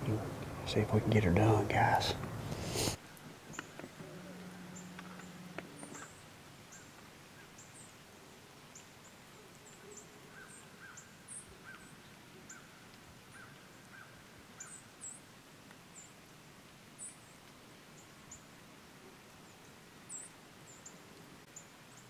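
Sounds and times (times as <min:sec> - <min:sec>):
small birds chirping: 0:00.0 - 0:15.3, 0:17.0 - 0:22.0.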